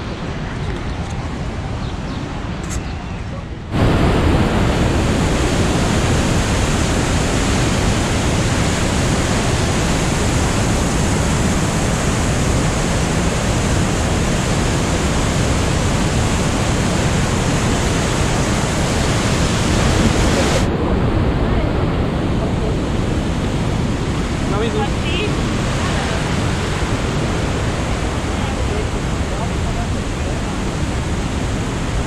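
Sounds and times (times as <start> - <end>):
waterfall roaring: 3.7 - 32.0.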